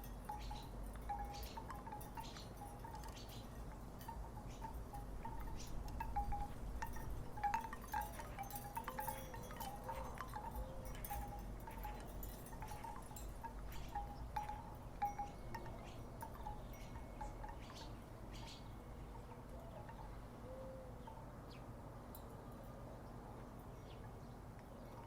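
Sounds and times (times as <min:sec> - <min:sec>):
wooden wind chimes knocking: 0:00.0 - 0:20.1
faint low wind rumble: 0:00.0 - 0:25.0.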